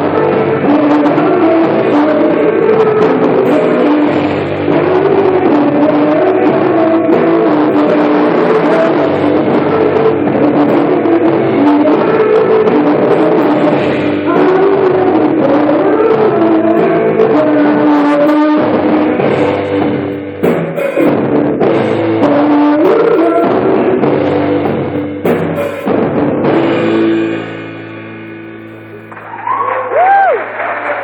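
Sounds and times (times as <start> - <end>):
person singing: 0.0 - 27.8
rock band playing: 0.0 - 30.7
drums: 0.0 - 31.0.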